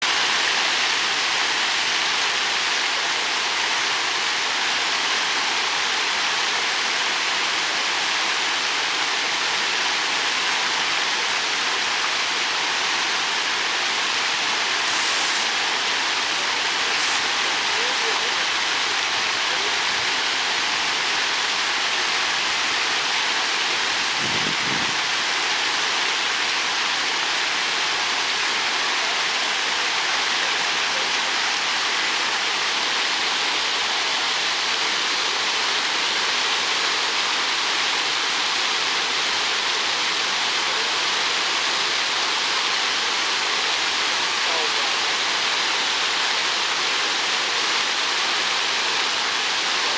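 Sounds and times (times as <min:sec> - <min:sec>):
fountain water splashing: 0:00.0 - 0:49.9.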